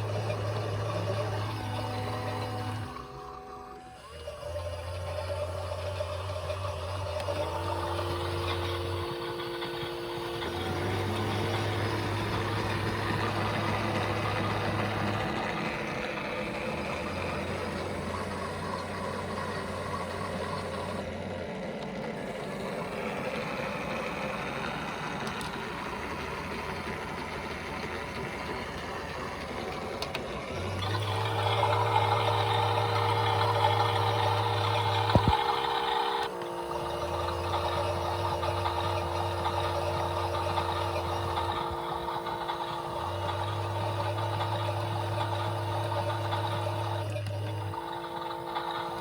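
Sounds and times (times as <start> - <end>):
motor whine: 0.0 - 49.0
toy washing machine motors whirring: 0.0 - 49.0.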